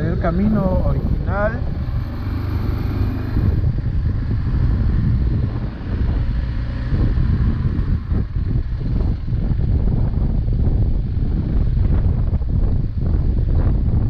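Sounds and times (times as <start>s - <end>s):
motorcycle engine rumble: 0.0s - 14.0s
wind buffeting microphone: 0.0s - 14.0s.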